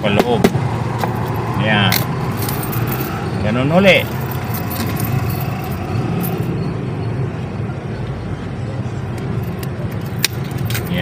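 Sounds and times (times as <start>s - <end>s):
background traffic noise: 0.0s - 11.0s.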